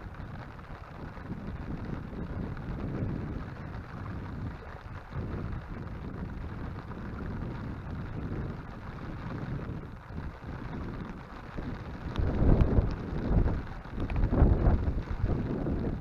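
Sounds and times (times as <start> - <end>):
heavy rain: 0.0 - 16.0
wind buffeting microphone: 0.0 - 16.0.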